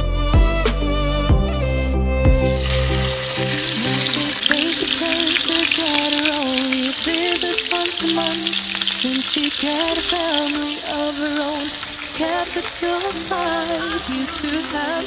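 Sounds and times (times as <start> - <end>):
song melody playing: 0.0 - 15.0
food sizzling in a frying pan: 2.5 - 15.0.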